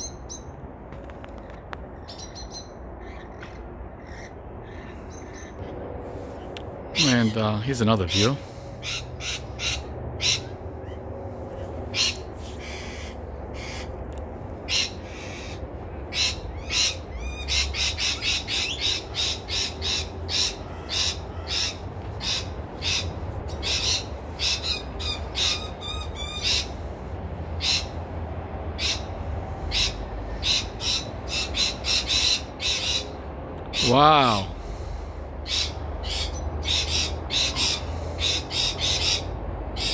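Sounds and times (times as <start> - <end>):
parrots screeching: 2.1 - 5.6, 8.1 - 13.9, 14.7 - 26.8, 27.6 - 28.0, 28.7 - 34.5, 35.4 - 39.9.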